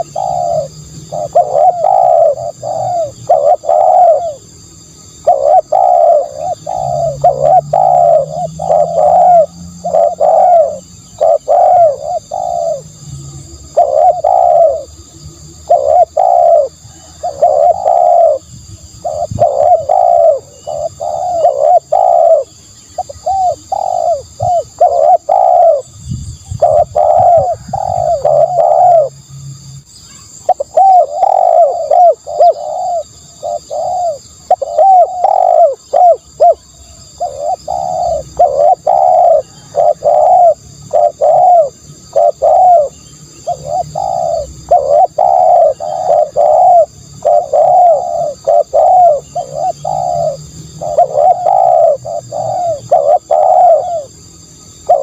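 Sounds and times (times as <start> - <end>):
dove cooing: 0.0 - 29.2, 30.2 - 55.0.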